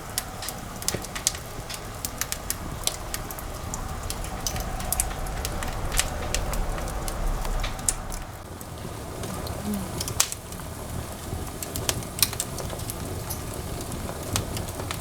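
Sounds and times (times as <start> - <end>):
firewood crackling and popping: 0.0 - 15.0
low fire rumble: 0.0 - 15.0.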